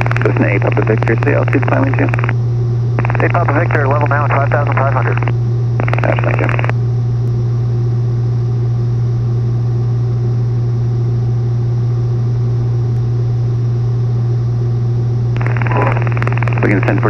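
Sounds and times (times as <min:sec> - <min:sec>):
airplane engine droning: 0:00.0 - 0:17.0.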